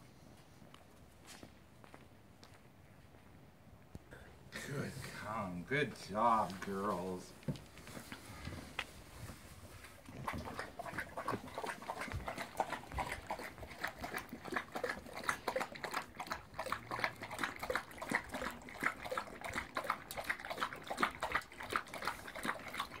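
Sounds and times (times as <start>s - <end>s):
dogs lapping water: 4.4s - 23.0s.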